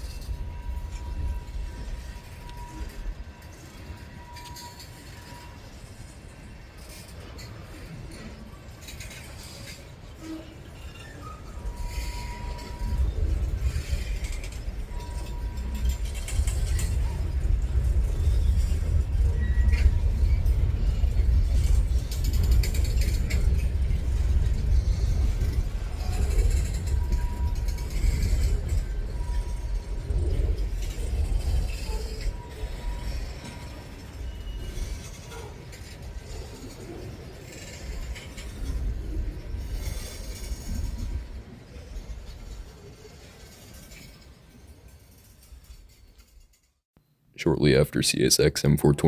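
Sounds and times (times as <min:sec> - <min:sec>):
train wheels rattling and clicking: 0:00.0 - 0:41.2.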